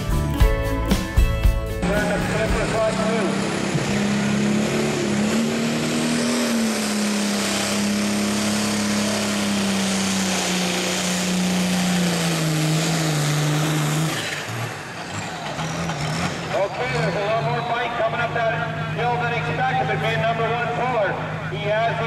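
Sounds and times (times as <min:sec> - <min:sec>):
diesel engine running flat out: 0:01.2 - 0:22.0.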